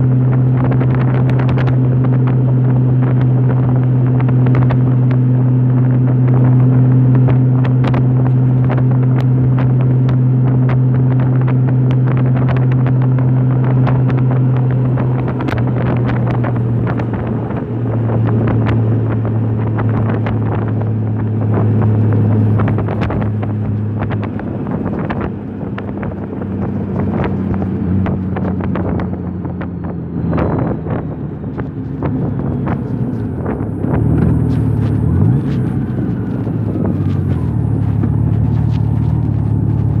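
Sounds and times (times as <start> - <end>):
motorcycle engine cruising: 0.0 - 40.0
wind buffeting microphone: 0.0 - 40.0.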